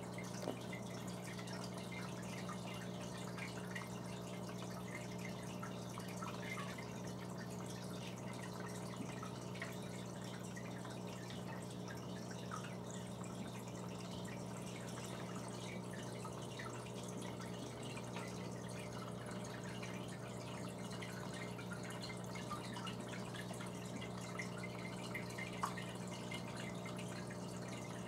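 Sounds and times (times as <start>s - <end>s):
water drips: 0.0s - 28.0s
water trickling: 0.0s - 28.0s.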